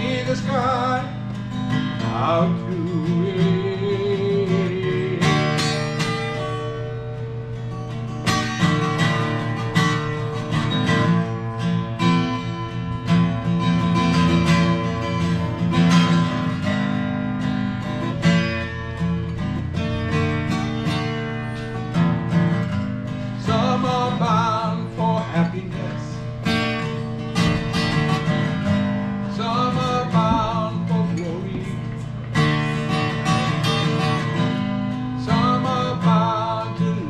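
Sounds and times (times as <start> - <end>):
acoustic guitar strumming chords: 0.0 - 37.0.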